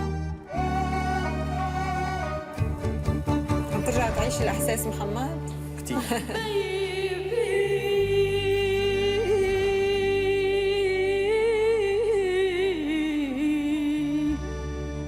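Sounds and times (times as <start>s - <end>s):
low sustained musical backing: 0.0s - 15.0s.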